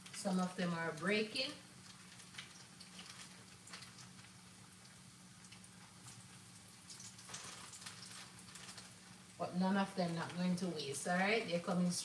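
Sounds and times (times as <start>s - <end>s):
frying sizzle and crackles: 0.0s - 12.0s.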